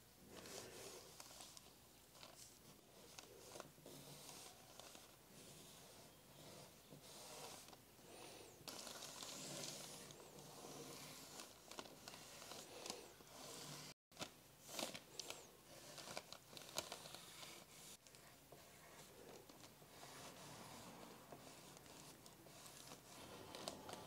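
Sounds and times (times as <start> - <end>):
paper rustling: 0.3 - 5.2, 7.4 - 24.0
pencil scratching on paper: 2.6 - 14.0, 15.2 - 24.0.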